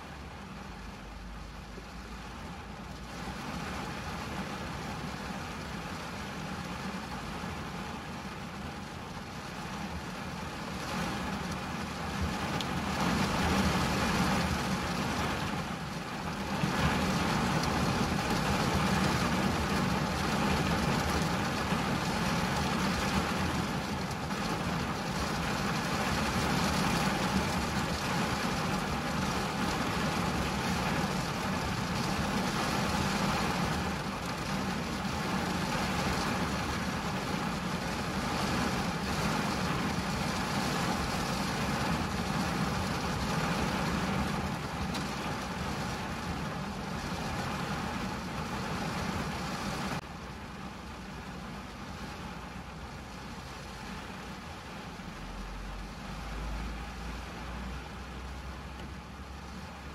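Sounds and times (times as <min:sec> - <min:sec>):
rain on car windshield and roof: 0:00.0 - 0:59.9.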